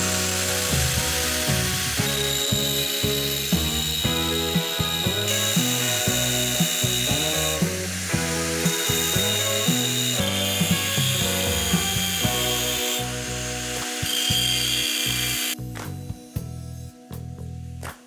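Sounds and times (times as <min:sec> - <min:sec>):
workshop tool sawing or grinding: 0:00.0 - 0:15.7.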